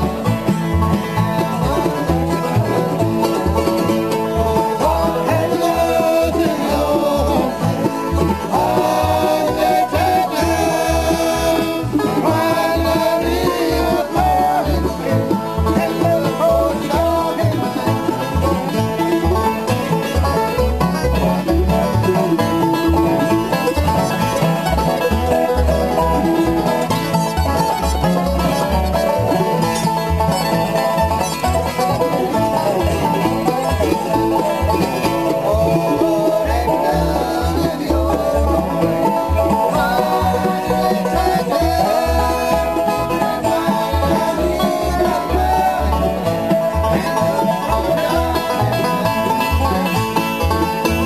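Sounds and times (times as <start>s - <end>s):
bluegrass band playing: 0.0s - 51.0s
mandolin: 0.0s - 51.0s.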